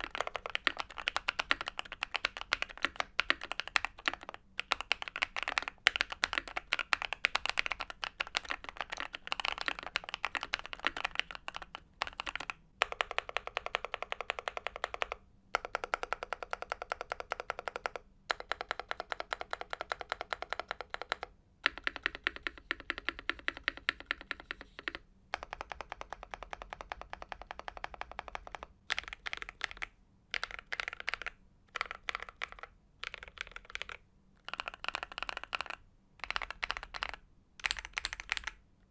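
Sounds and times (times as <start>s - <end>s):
mechanical keyboard typing: 0.0s - 38.6s.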